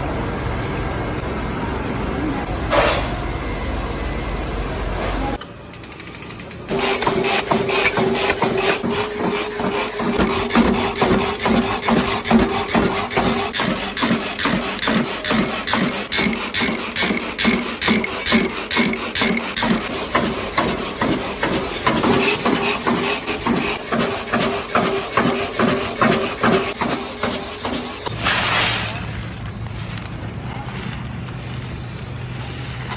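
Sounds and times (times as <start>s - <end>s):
factory machine humming: 0.0s - 32.9s.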